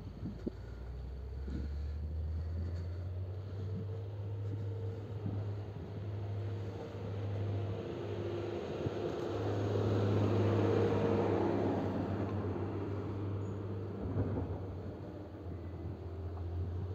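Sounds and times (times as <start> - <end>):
grader diesel engine passing: 0.6 - 16.9.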